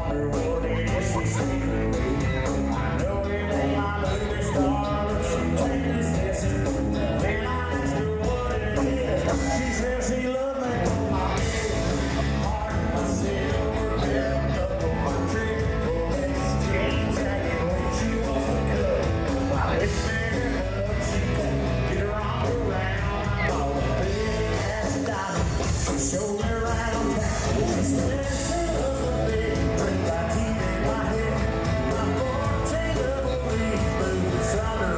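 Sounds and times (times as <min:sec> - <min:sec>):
steady drum beat: 0:00.0 - 0:10.1, 0:10.7 - 0:34.9
heavy bass: 0:00.0 - 0:34.9
live country-rock band playing: 0:00.0 - 0:34.9.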